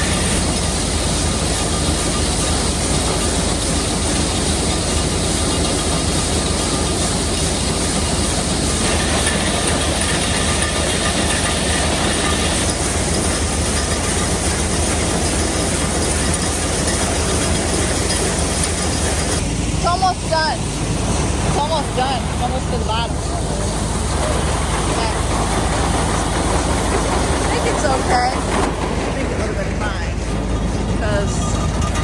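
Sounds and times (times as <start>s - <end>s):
grain dryer running: 0.0s - 32.0s.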